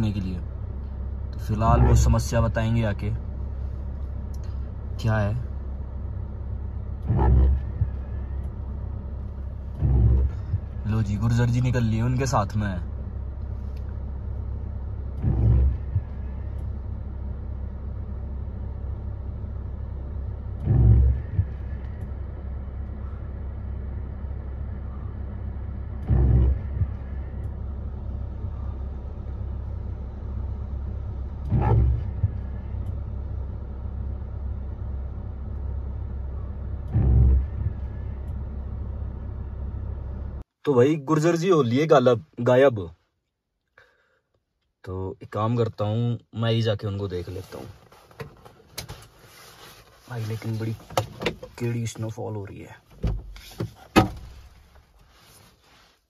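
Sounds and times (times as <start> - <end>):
car engine idling: 0.0 - 42.9, 46.4 - 55.9.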